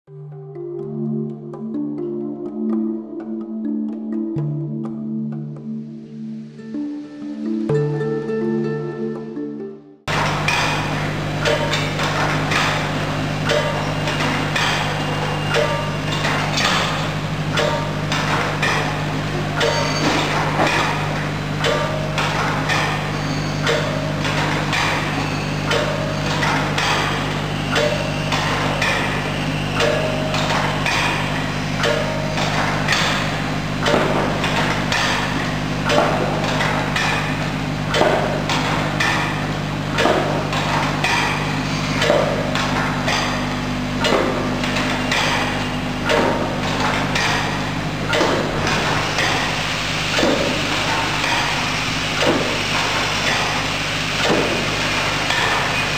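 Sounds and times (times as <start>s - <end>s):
machine motor hum: 10.1s - 55.9s.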